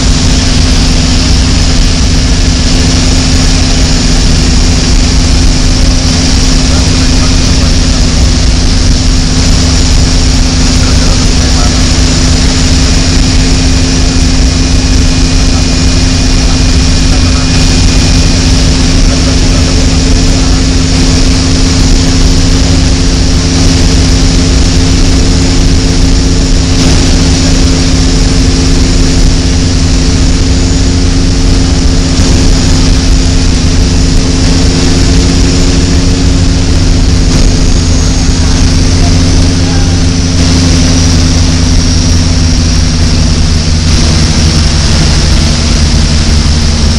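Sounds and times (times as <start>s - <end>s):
rushing air noise: 0.0s - 46.9s
turboprop engines droning: 0.0s - 46.9s.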